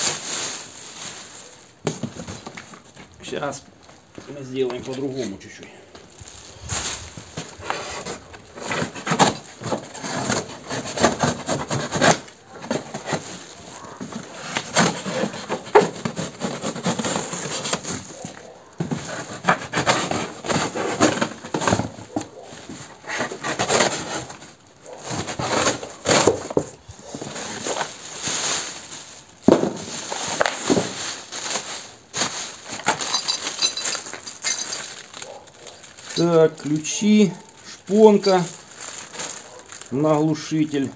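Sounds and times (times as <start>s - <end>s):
plastic film crinkling: 0.0s - 40.9s.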